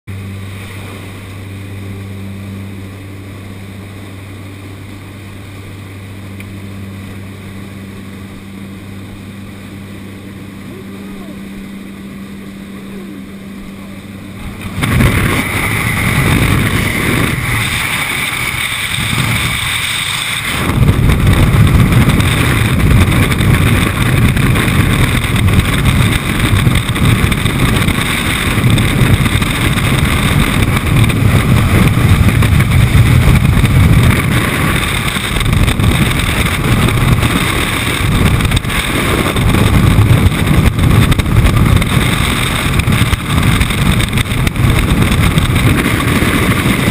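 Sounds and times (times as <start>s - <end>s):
aircraft engine drone: 0.1s - 46.9s
wind rushing over microphone: 0.1s - 46.9s.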